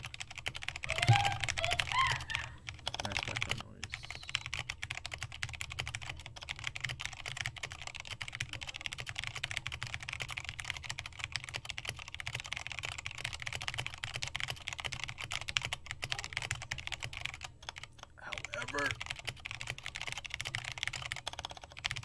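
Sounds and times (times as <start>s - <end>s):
mechanical keyboard typing: 0.0s - 22.0s.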